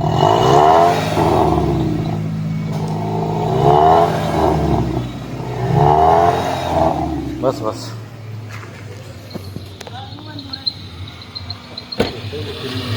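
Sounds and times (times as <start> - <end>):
car engine revving: 0.0 - 8.9, 10.6 - 12.9.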